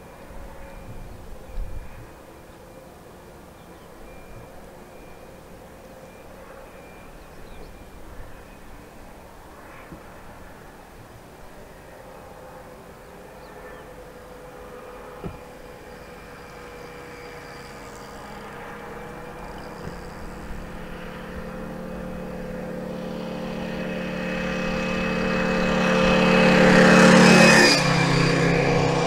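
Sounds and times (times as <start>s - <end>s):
train engine passing: 0.0s - 29.0s.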